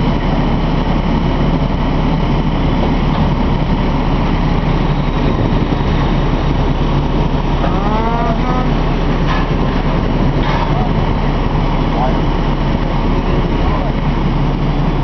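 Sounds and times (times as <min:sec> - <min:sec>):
fire engine motor droning: 0:00.0 - 0:15.0.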